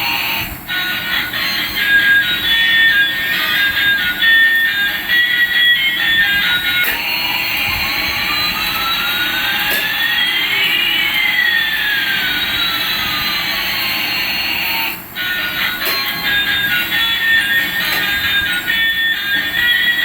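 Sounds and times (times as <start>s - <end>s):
jet engine whine: 0.0s - 20.0s.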